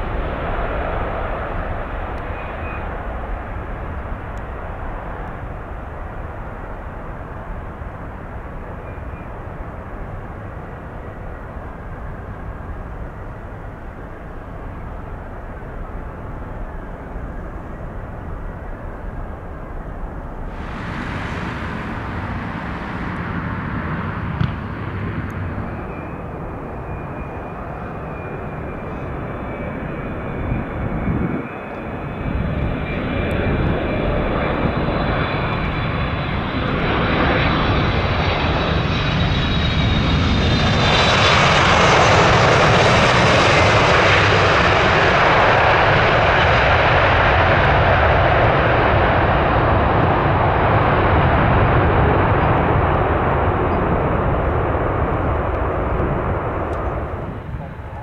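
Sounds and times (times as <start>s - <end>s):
jet engines whining and roaring: 0.0s - 58.0s.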